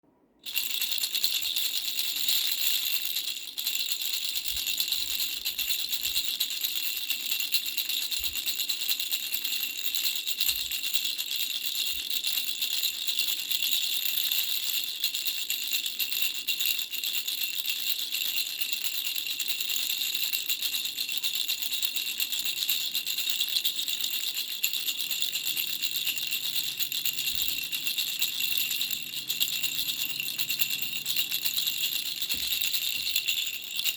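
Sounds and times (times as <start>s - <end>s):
baby rattle shaking: 0.4s - 33.9s.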